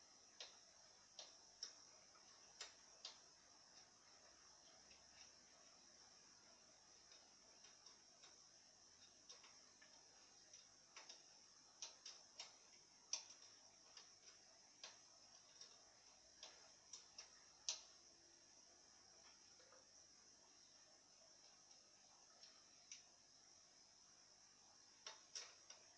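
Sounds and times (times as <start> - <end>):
faint irregular clicks and ticks: 0.0 - 25.9.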